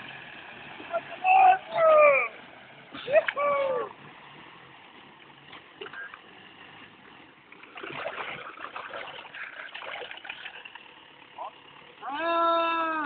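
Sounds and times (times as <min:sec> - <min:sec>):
truck driving through water and mud: 0:00.0 - 0:13.0.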